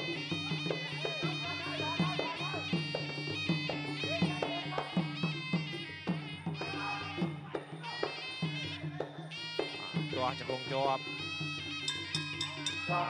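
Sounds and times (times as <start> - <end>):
reed oboe melody: 0.0 - 13.0
steady drum beat: 0.0 - 13.0.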